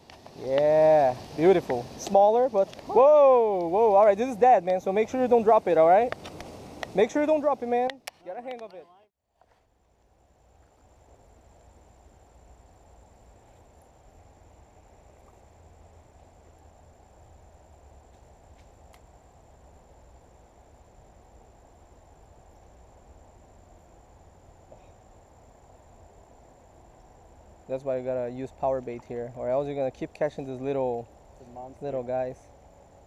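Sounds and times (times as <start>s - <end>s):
high-pitched insect trill: 0.0s - 33.0s.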